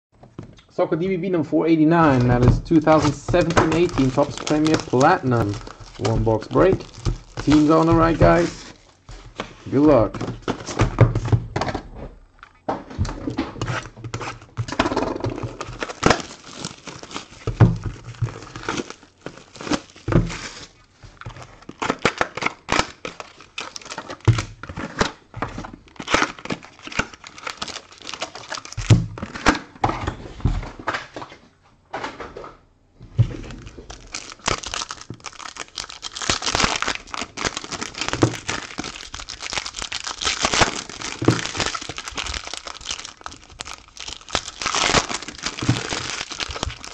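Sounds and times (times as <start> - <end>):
foil packs crinkling and tearing: 1.9 - 10.9, 13.6 - 29.6, 33.3 - 46.9.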